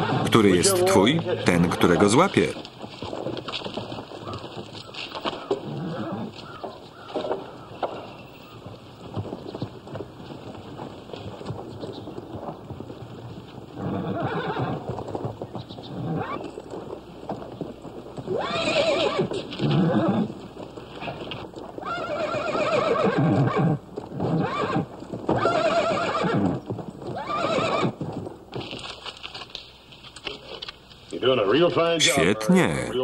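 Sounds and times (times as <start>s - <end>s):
horses whinnying: 0.0s - 28.8s
hooves clopping on dirt: 0.0s - 33.0s.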